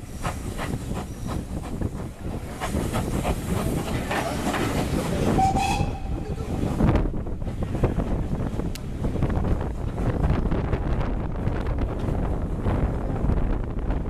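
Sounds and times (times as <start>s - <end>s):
train rumbling: 0.0s - 14.0s
train wheels knocking and clicking: 0.1s - 12.4s.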